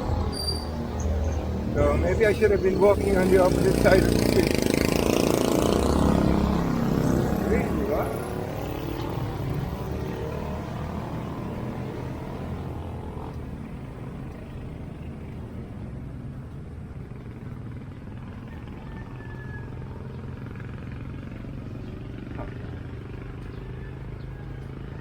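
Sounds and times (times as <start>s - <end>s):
steady low engine hum: 0.0s - 25.0s
vehicle engine passing close: 0.0s - 25.0s.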